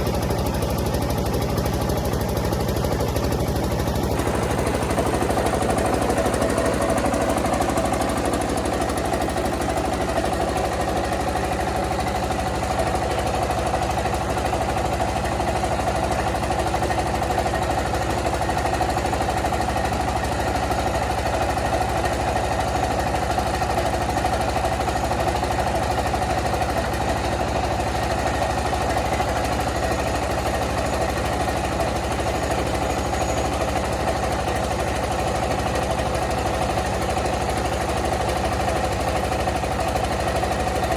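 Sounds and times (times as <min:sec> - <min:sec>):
milling machine droning and knocking: 0:00.0 - 0:40.9.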